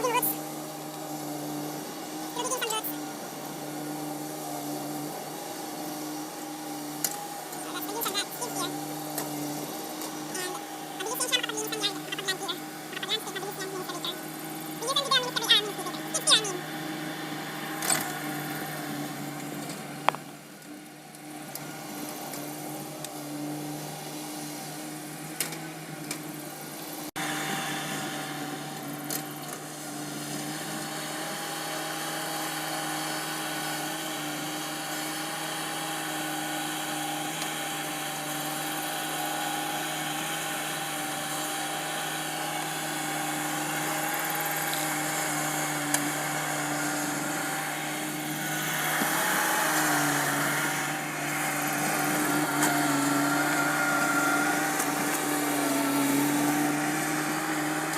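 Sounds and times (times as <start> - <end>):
skid steer engine droning: 0.0 - 57.9.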